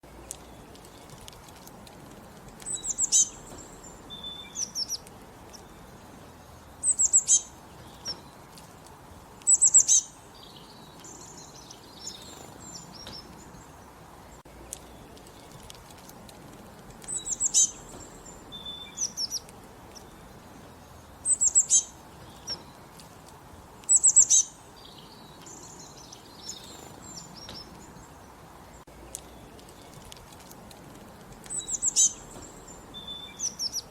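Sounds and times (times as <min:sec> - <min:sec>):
soft bird chirps: 0:00.0 - 0:33.9
songbirds singing: 0:00.0 - 0:33.9.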